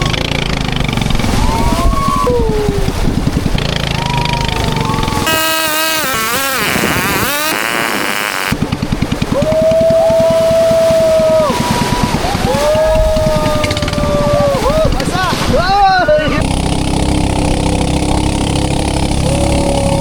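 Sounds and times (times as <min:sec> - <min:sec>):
motorboat engine chugging: 0:00.0 - 0:20.0.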